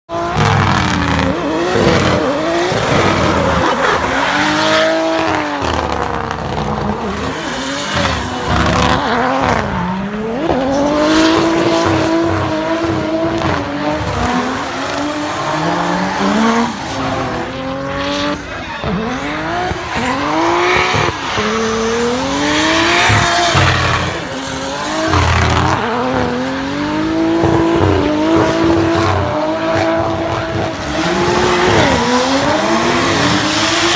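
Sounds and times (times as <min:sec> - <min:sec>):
car engine revving: 0:00.1 - 0:33.9
tyres squealing: 0:00.6 - 0:12.0, 0:13.8 - 0:28.5, 0:30.4 - 0:33.9.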